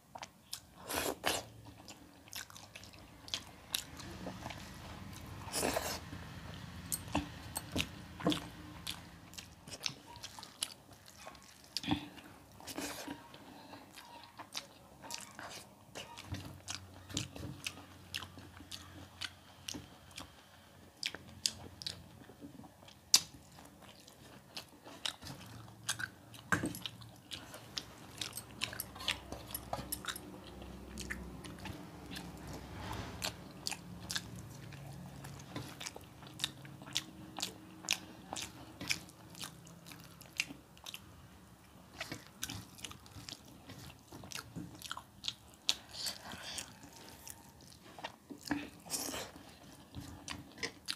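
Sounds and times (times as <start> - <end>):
chewing: 0.1 - 50.9.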